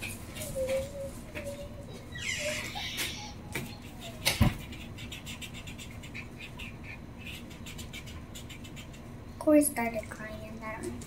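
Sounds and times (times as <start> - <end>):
marker squeaking on paper: 0.0 - 9.2.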